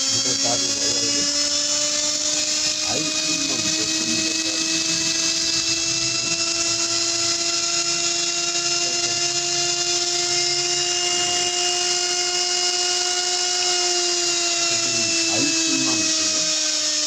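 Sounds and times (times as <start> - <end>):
motor whining at high speed: 0.0 - 17.0.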